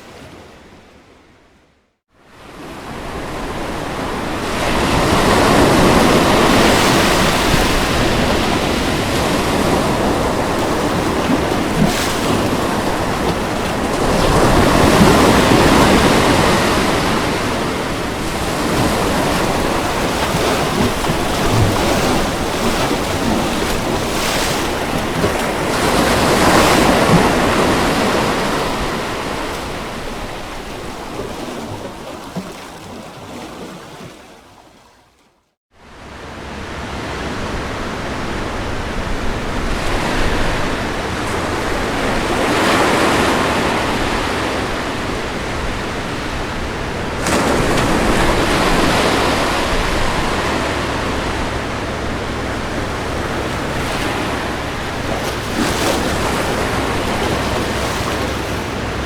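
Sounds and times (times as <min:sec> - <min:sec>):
ocean waves breaking: 0:02.2 - 0:35.0, 0:35.8 - 0:59.0.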